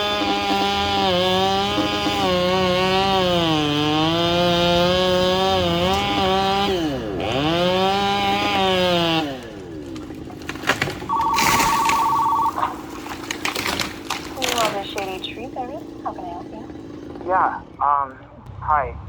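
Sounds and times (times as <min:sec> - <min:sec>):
chainsaw revving: 0:00.0 - 0:18.1.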